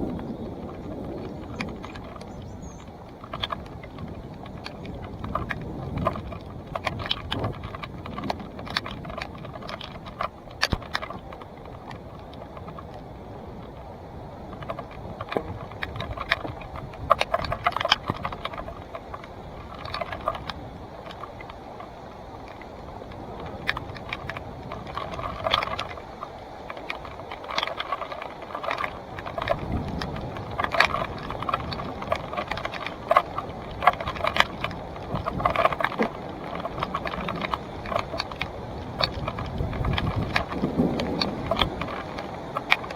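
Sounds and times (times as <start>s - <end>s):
tyre and trail noise: 0.0s - 42.9s.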